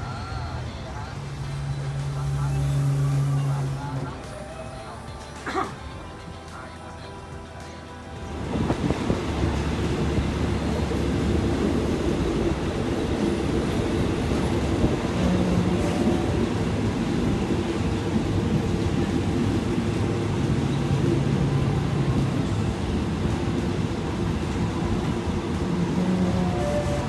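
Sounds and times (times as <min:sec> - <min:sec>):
passenger train rumble: 0:00.0 - 0:27.0.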